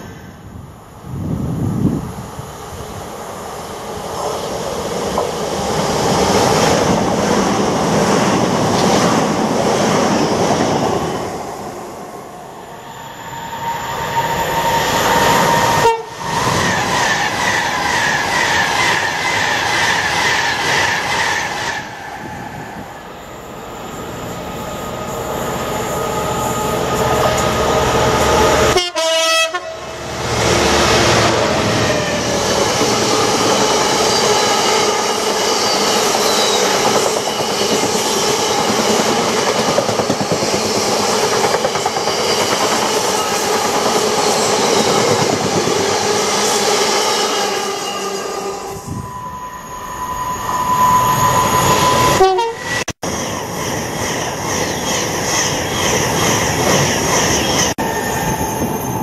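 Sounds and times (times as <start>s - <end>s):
electric trains passing: 0.0s - 59.0s
freight train rolling past: 0.0s - 59.0s.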